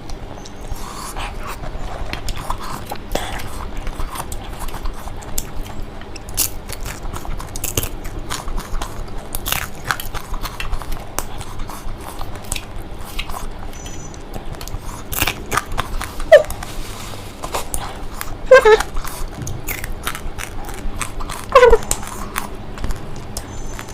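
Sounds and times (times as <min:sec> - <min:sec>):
crunching crispy fried food: 0:00.1 - 0:23.9.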